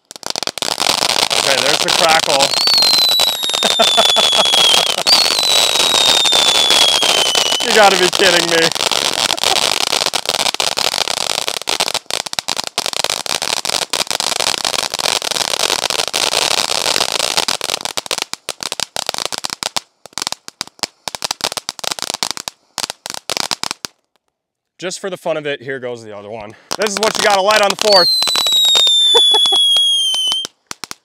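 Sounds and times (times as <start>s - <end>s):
firework hiss: 0.0s - 23.9s, 26.7s - 31.0s
firework fountain crackling: 0.0s - 24.2s, 26.5s - 31.0s.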